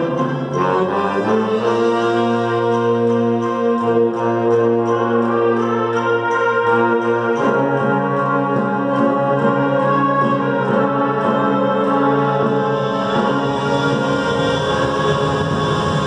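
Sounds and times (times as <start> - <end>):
wind orchestra playing chords: 0.0 - 16.0.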